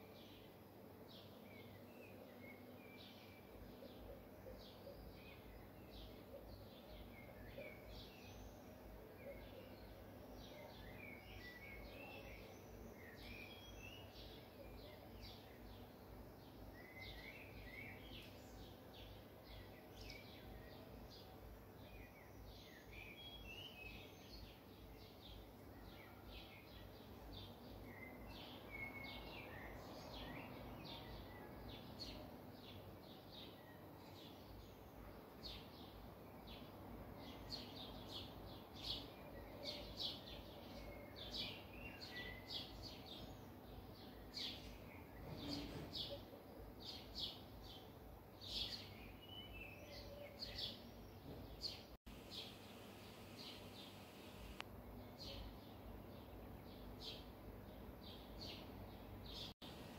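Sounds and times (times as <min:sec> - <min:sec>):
faint chirping of small birds: 0:00.0 - 0:59.9.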